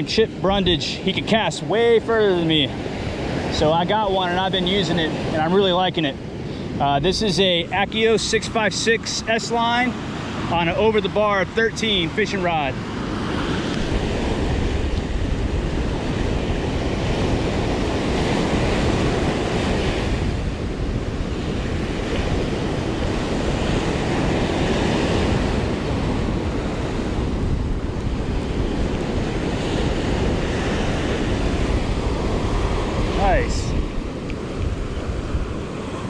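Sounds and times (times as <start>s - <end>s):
surf breaking on beach: 0.0s - 36.0s
wind buffeting microphone: 0.0s - 36.0s.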